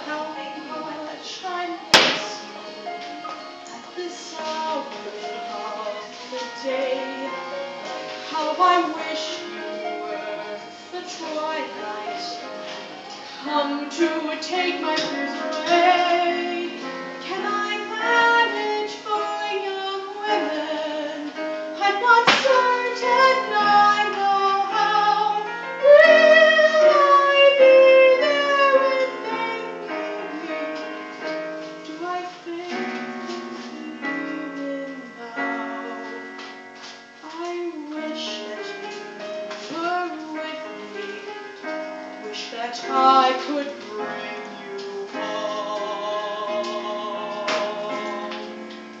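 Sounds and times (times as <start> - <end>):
woman singing a ballad: 0.0 - 2.8, 3.7 - 49.0
piano accompaniment: 0.0 - 49.0.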